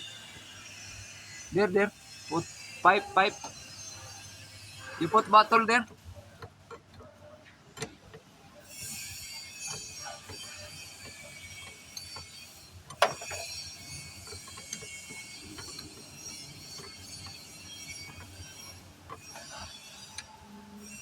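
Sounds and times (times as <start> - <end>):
hand tools clinking on metal: 1.6 - 21.0.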